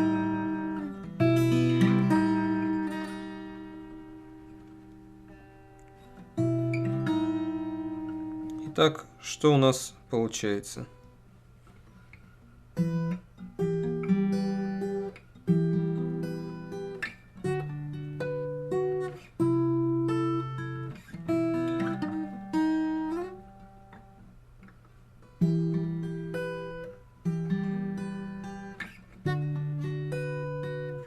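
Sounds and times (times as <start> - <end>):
fingerpicked acoustic guitar: 0.0 - 31.0.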